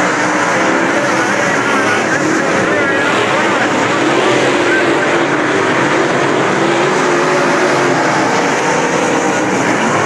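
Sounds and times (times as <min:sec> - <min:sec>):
race car engines roaring: 0:00.0 - 0:10.0.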